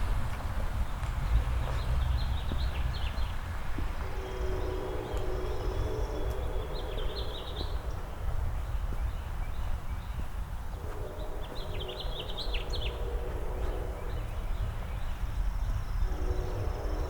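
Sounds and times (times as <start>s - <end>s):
songbirds chirping: 0.4s - 17.0s.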